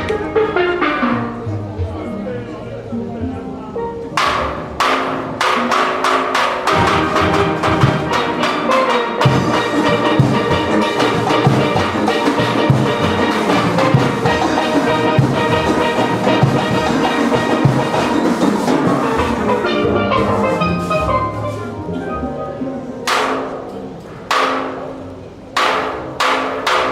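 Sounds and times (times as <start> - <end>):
steelpans playing chords: 0.0 - 26.9
drums and percussion: 4.2 - 22.4, 23.1 - 26.9.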